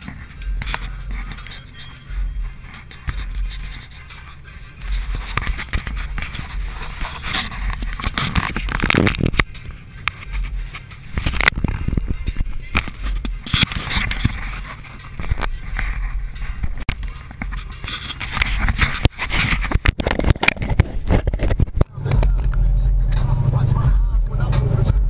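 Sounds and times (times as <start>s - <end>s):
rustling and scraping near microphone: 0.0s - 23.5s
car engine droning: 0.0s - 25.0s.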